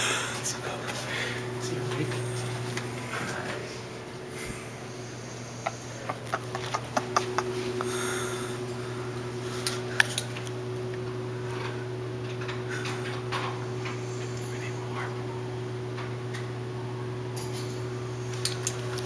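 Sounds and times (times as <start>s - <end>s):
electric desk fan humming: 0.0s - 19.0s.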